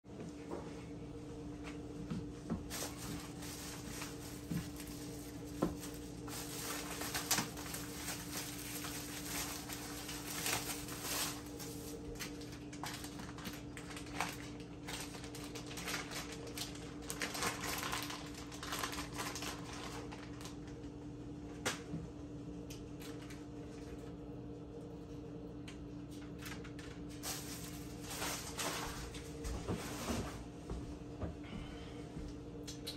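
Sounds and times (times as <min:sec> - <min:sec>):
steady low hum: 0:00.1 - 0:32.9.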